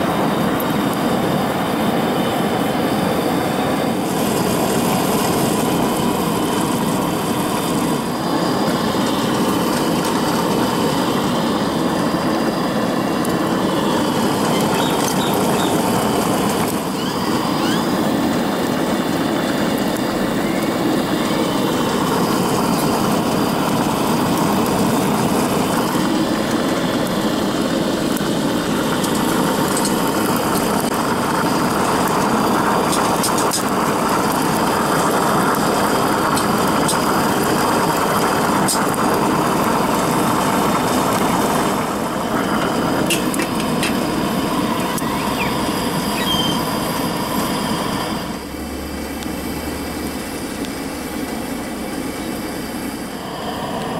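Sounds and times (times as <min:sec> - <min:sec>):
gas burner roaring: 0:00.0 - 0:53.9.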